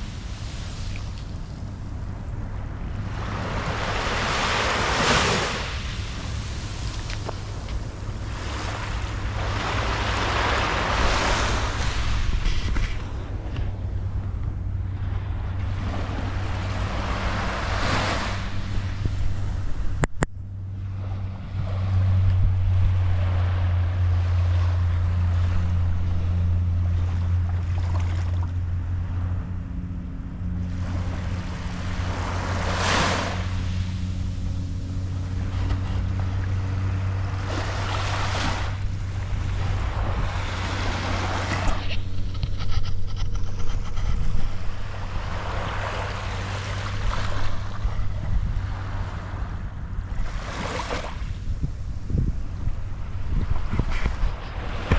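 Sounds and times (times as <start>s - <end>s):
small waves breaking on beach: 0.0s - 20.0s, 30.6s - 54.9s
low rumble: 0.0s - 54.9s.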